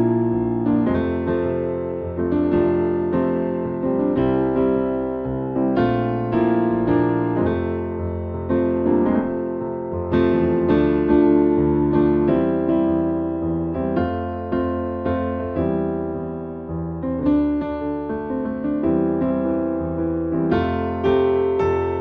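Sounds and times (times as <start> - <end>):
electric piano music: 0.0 - 22.0.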